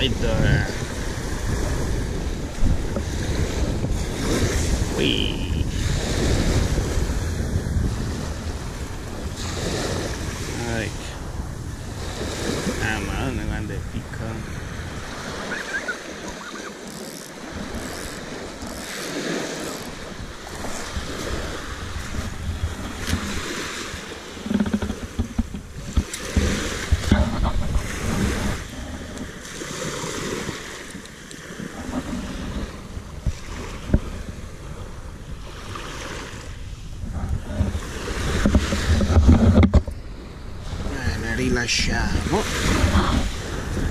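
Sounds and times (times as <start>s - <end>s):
waves washing over pebbles: 0.0s - 43.9s
wind buffeting microphone: 0.0s - 43.9s.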